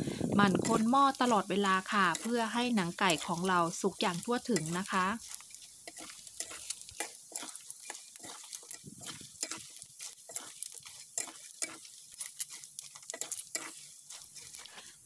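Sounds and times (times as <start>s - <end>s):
chicken skin deep-frying in oil: 0.0s - 15.0s
ladle stirring in oil: 0.0s - 15.0s.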